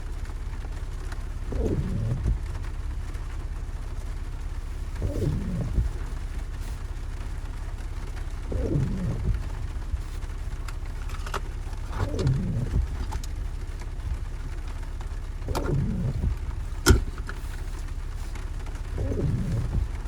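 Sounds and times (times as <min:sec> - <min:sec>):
rain falling: 0:00.0 - 0:20.0
vehicle engine running low: 0:00.0 - 0:20.0.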